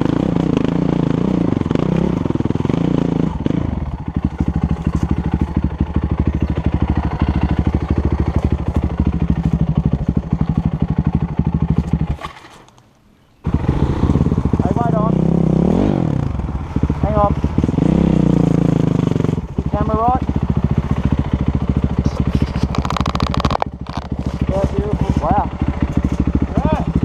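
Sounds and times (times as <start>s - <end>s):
dirt bike engine chugging: 0.0s - 12.7s, 13.3s - 27.0s.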